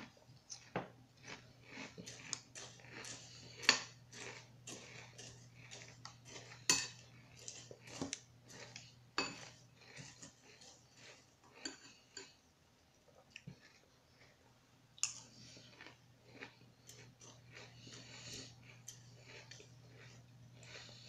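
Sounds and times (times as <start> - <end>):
chewing: 0.0 - 12.4, 13.0 - 21.0.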